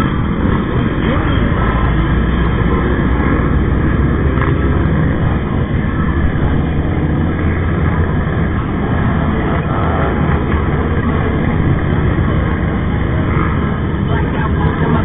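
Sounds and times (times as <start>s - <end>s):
motorcycle engines rumbling: 0.0s - 15.0s
wind and road noise: 0.0s - 15.0s.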